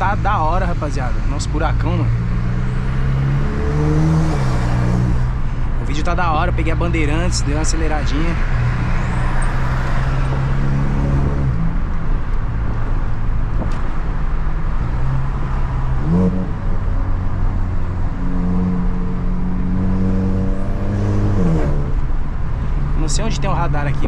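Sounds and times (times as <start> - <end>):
road noise: 0.0 - 24.0
tuned car engine driving: 0.0 - 24.0.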